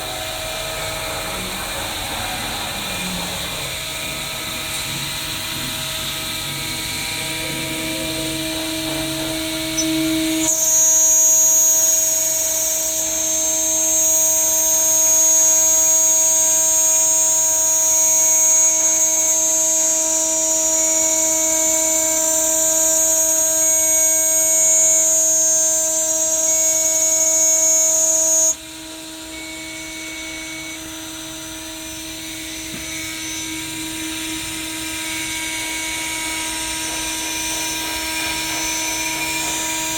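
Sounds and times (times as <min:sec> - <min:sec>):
cnc router whining: 0:00.0 - 0:39.9.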